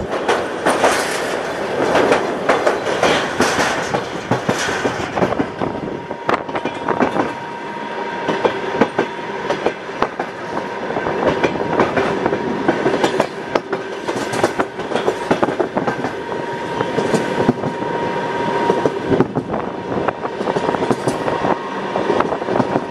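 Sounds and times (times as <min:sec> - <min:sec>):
train wheels clattering on rails: 0:00.0 - 0:22.9.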